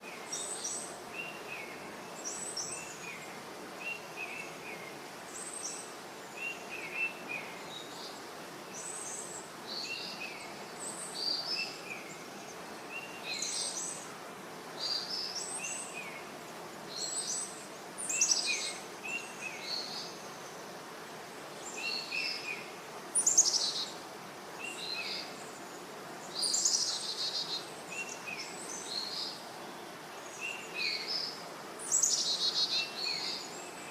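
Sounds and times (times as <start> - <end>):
low background noise: 0.0 - 33.9.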